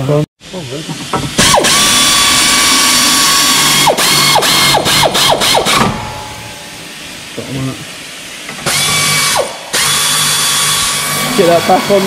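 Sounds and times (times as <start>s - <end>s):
air ratchet whine and hiss: 0.5s - 12.0s.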